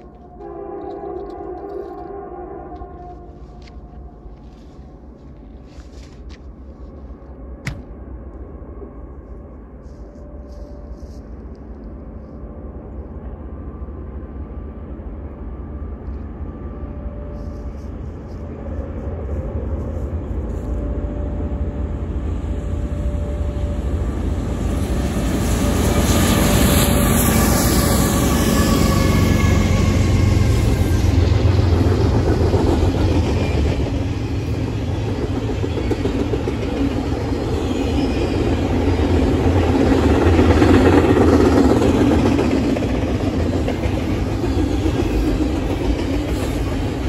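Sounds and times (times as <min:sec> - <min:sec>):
diesel train engine rumble: 0:00.0 - 0:47.0
train rail noise: 0:00.0 - 0:47.0.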